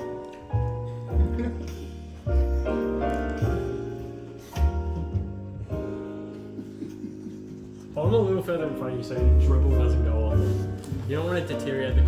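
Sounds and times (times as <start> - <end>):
piano chords: 0.0 - 12.0
bass line: 0.8 - 7.0, 7.6 - 11.2.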